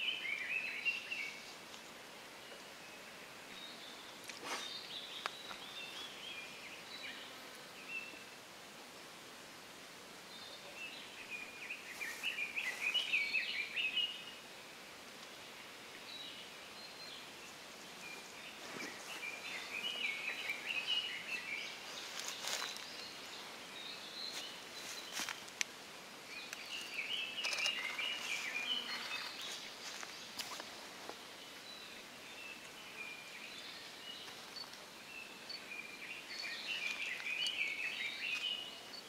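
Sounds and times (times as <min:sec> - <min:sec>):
woodland hiss: 0:00.0 - 0:39.0.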